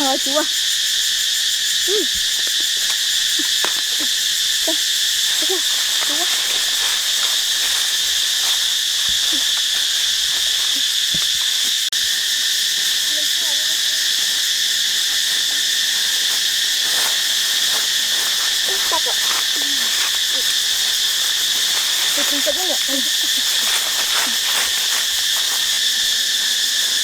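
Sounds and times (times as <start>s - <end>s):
forest insects buzzing: 0.0s - 27.0s.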